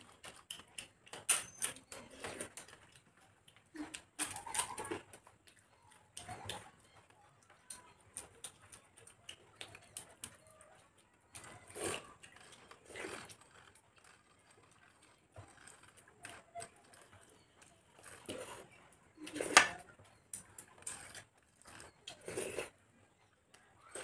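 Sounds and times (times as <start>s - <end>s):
crunchy chewing of crisp wafers: 0.0s - 24.0s.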